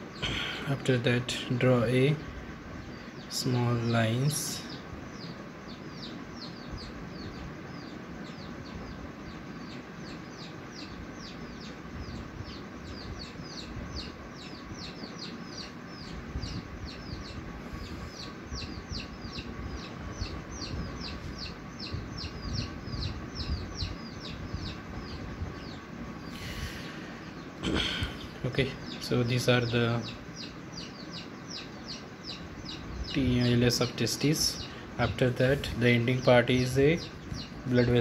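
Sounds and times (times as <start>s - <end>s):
bird chirping: 0.0s - 38.0s
low rumbling background: 0.0s - 38.0s.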